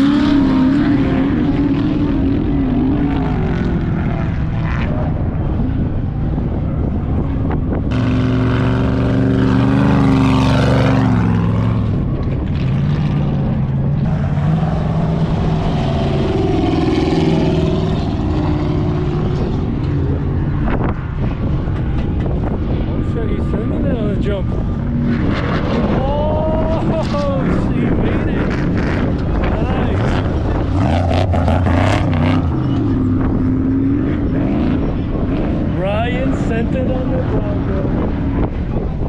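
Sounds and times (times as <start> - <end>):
vehicle engines running: 0.0 - 39.0.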